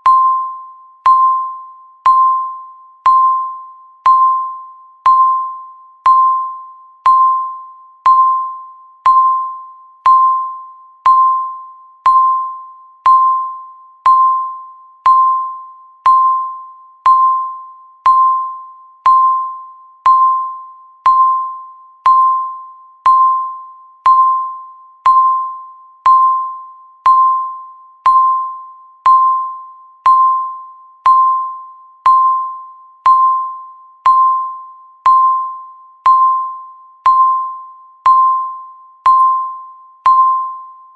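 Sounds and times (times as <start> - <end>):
timer beeping high tone: 0.0 - 40.9.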